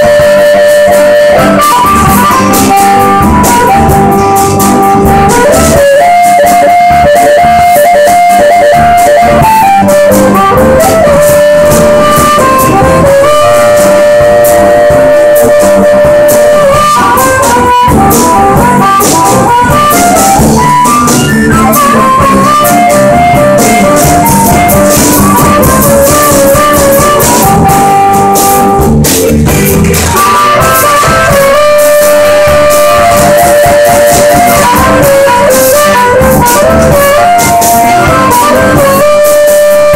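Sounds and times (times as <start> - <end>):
amplified harmonica: 0.0 - 39.9
live band playing: 0.0 - 39.9.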